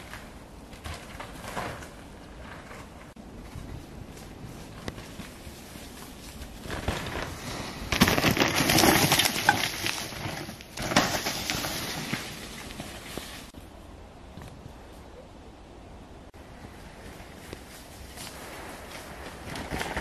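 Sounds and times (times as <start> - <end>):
bike tyres crunching over leaves: 0.0 - 13.6, 16.7 - 20.0.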